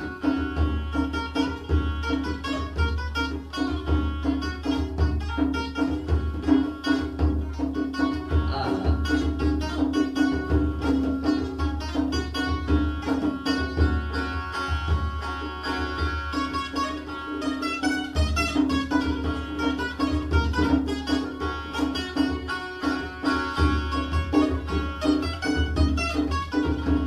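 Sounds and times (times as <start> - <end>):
plucked string notes: 0.0 - 27.0.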